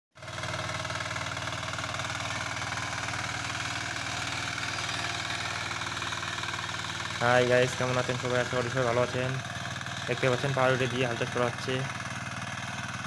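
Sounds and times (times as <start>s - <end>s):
power weeder engine running: 0.2s - 13.0s.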